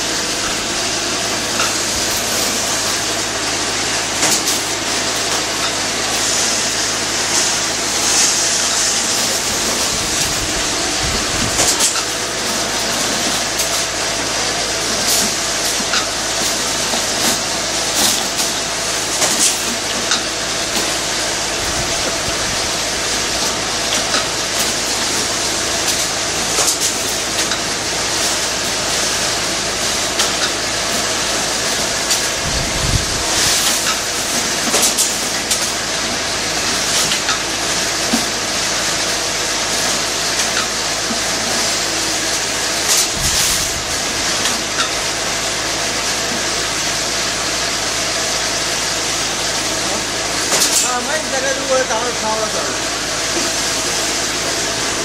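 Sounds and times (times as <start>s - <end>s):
welding machine hum: 0.0s - 55.0s.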